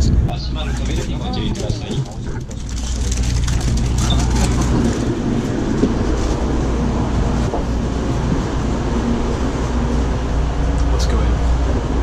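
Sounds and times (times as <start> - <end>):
train rumble from inside carriage: 0.0 - 12.0.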